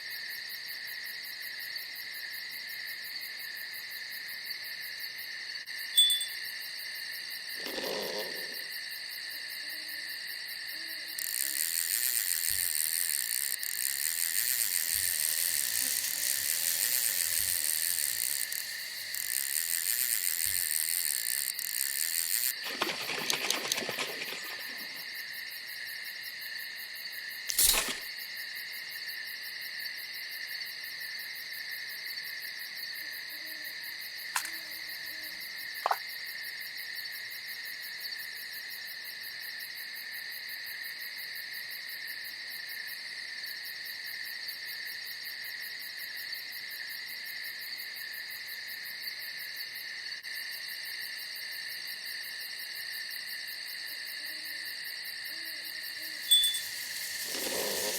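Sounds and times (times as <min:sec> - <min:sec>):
insects and crickets trilling: 0:00.0 - 0:57.9.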